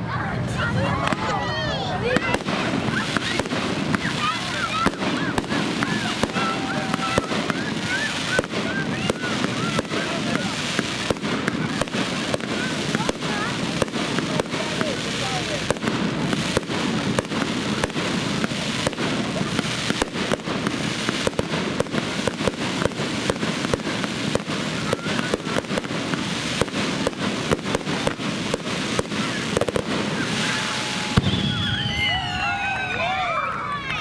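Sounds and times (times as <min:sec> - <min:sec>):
heavy firework boom: 0:00.0 - 0:33.2
fireworks bangs: 0:00.0 - 0:34.0
fireworks crackling: 0:00.0 - 0:34.0.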